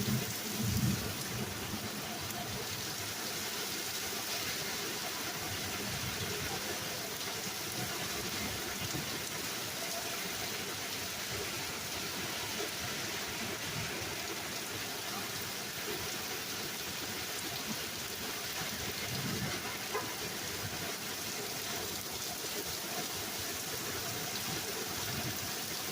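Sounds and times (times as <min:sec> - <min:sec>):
rain on hard surfaces: 0:00.0 - 0:25.9.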